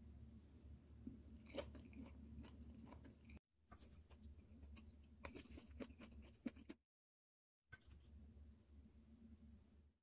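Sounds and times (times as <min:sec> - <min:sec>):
low steady hum: 0:00.0 - 0:06.7, 0:07.7 - 0:10.0.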